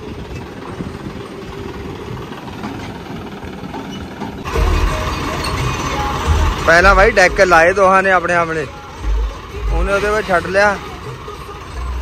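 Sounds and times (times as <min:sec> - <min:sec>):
deep engine rumble: 0:00.0 - 0:12.0
diesel tractor engine idling: 0:00.0 - 0:12.0.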